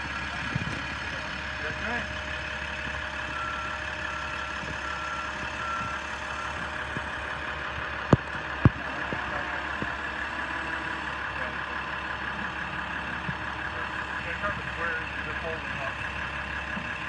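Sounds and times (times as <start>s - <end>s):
forklift engine hum: 0.0s - 17.0s.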